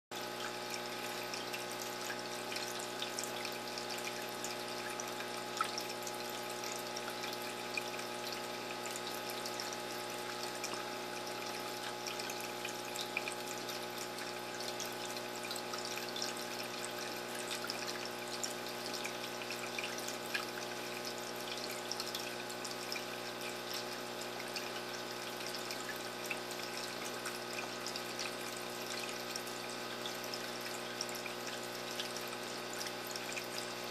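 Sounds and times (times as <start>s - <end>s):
small water drips: 0.2s - 33.9s
water splashing and trickling: 0.2s - 33.9s.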